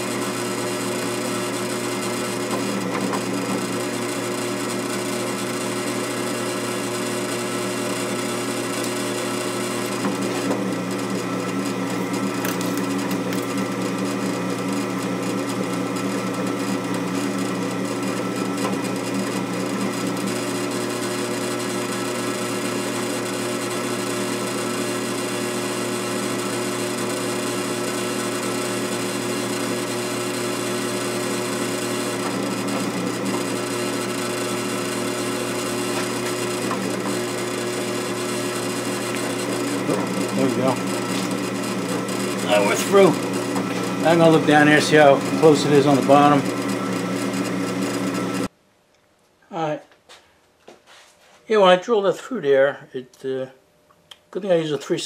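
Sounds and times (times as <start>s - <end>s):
drill press drilling into metal: 0.0s - 48.5s.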